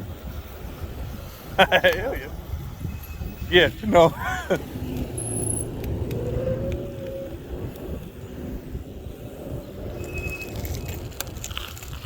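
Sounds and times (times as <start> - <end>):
electric scooter low rumble: 0.0 - 12.0.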